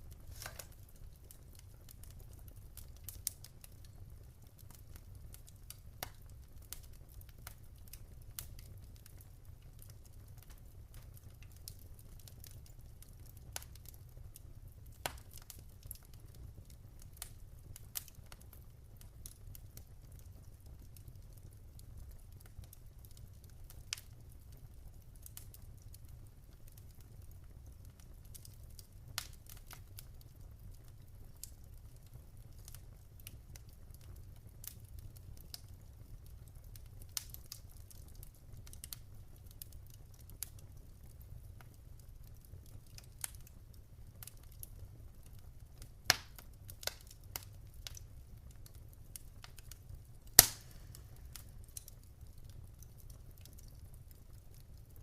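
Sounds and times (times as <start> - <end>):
sharp pops and snaps of fire: 0.0 - 55.0
wood fire crackling: 0.0 - 55.0.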